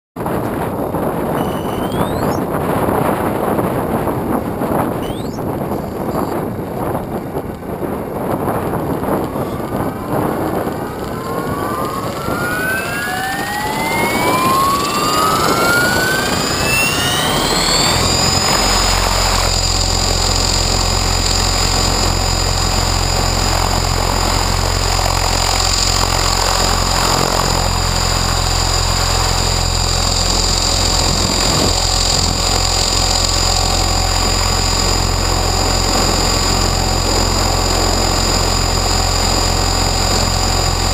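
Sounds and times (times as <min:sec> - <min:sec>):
low rotor hum: 0:00.2 - 0:40.9
wind buffeting microphone: 0:00.2 - 0:40.9
model helicopter motor whine: 0:01.3 - 0:02.6, 0:04.7 - 0:06.9, 0:07.8 - 0:40.9.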